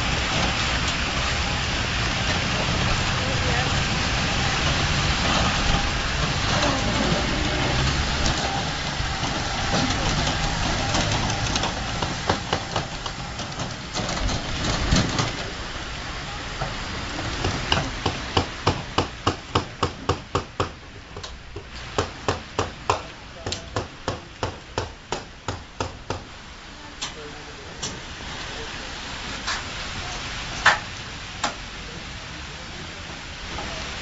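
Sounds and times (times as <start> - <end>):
ride train rolling over paving: 0.0 - 34.0.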